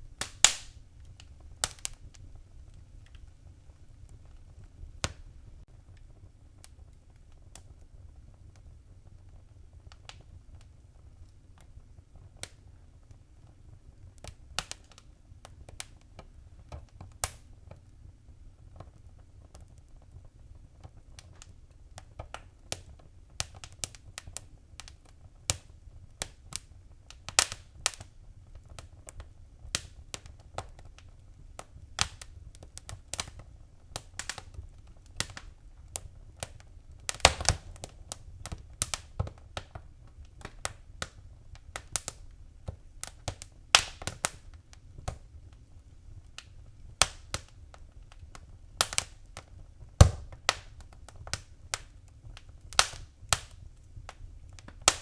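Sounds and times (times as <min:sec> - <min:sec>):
low rumble of flame: 0:00.0 - 0:55.0
wood fire crackling: 0:00.0 - 0:55.0.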